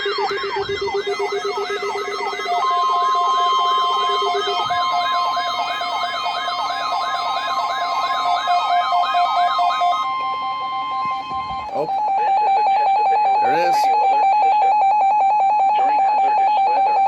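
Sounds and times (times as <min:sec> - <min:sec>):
rising and falling siren wail: 0:00.0 - 0:14.7
low pulsing beep: 0:00.0 - 0:17.0
steady warning alarm tone: 0:00.0 - 0:17.0.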